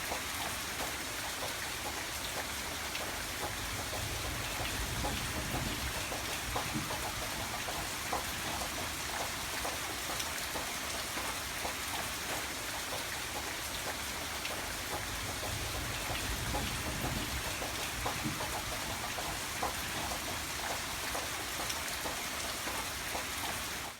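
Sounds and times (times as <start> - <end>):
raindrops ticking on a surface: 0.0 - 23.9.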